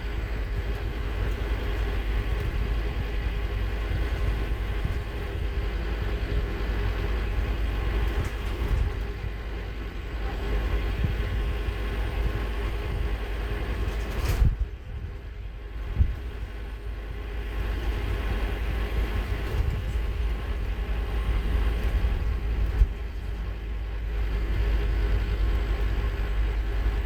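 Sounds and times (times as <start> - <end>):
bus diesel engine droning: 0.0 - 27.0
road rumble: 0.0 - 27.0.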